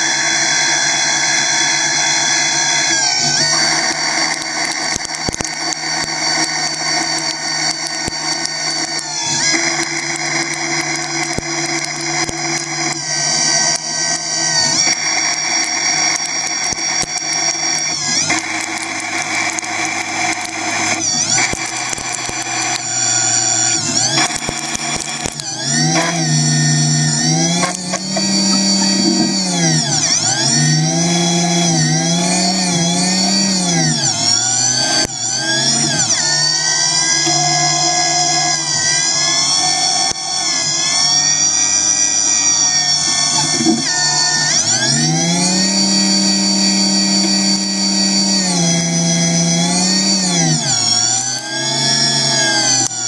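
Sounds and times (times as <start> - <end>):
electric motor whining: 0.0 - 53.0.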